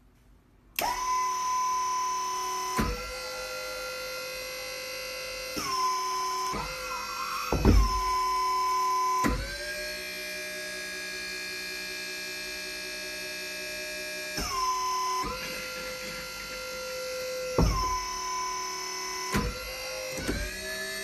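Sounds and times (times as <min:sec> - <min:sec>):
hydraulic pump motor whining: 0:00.8 - 0:21.0.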